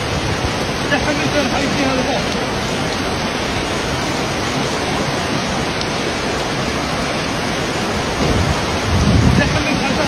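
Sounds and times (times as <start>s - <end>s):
flood water rushing: 0.0s - 10.0s.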